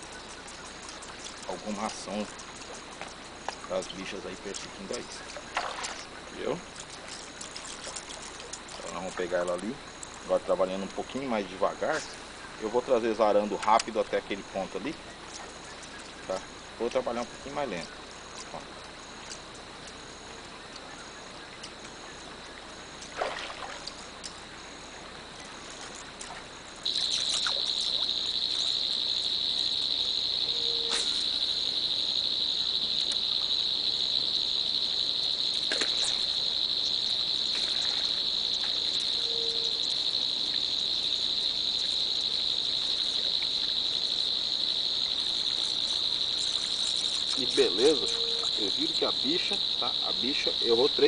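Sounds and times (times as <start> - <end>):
insect trilling: 0.0 - 51.0.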